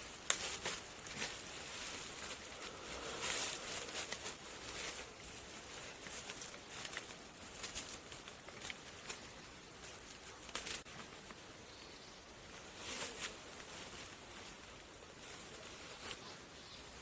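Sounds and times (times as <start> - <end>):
plant material rustling by hand: 0.0 - 11.6, 12.3 - 17.0.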